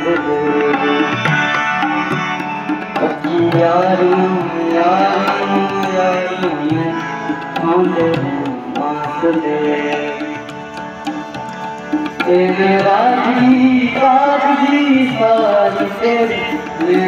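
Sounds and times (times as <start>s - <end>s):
harmonium: 0.0s - 17.0s
person singing wordless melody: 0.0s - 17.0s
tabla strokes: 0.0s - 17.0s.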